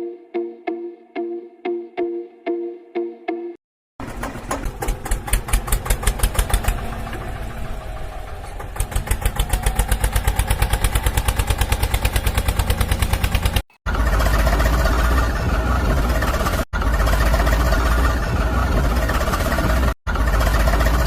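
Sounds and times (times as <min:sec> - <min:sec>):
small engine chugging: 0:04.0 - 0:21.0.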